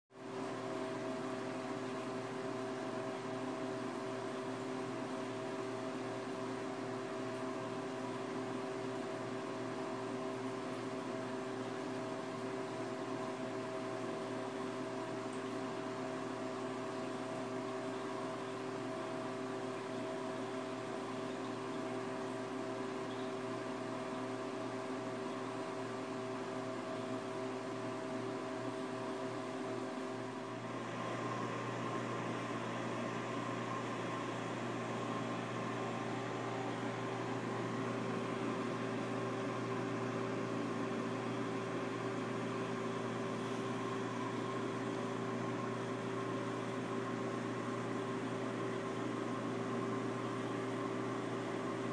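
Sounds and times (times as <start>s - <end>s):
aquarium pumps humming: 0.2s - 51.9s.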